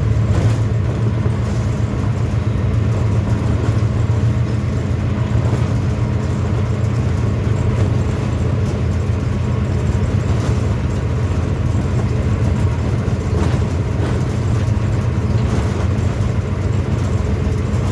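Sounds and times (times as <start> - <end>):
clacks over rail joints: 0.0 - 17.9
train wheels rumbling on rails: 0.0 - 17.9.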